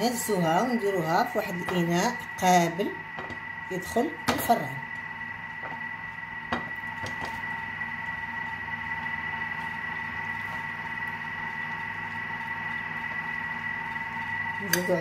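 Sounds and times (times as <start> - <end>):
steady whine and hum: 0.0 - 15.0.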